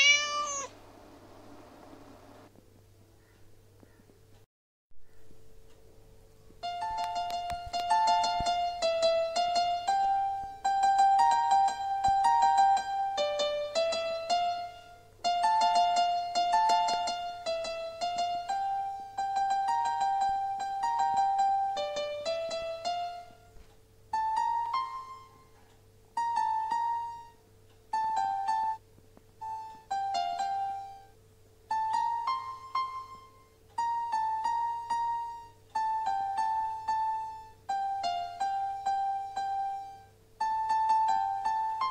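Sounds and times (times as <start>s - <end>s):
piano melody: 6.5s - 41.9s.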